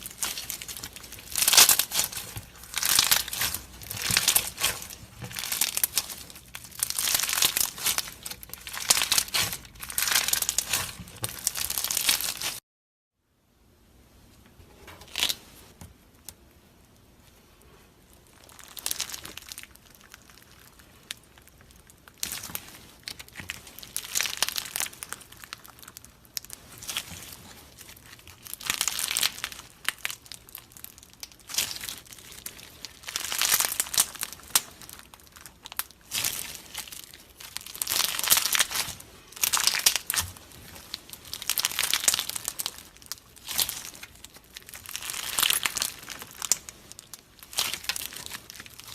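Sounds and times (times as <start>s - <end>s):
slime squished by hand crackling: 0.0s - 12.6s, 18.3s - 48.9s.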